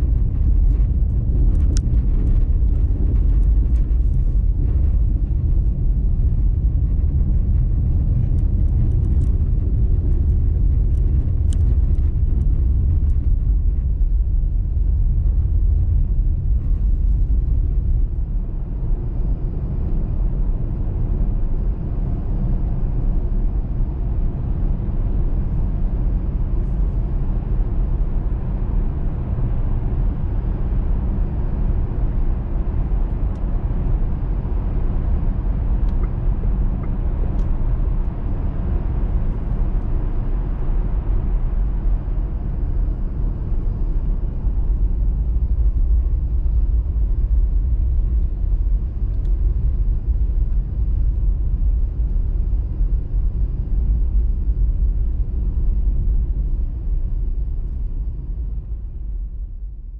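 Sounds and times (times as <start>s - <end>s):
car engine and tyre road noise: 0.0s - 59.8s.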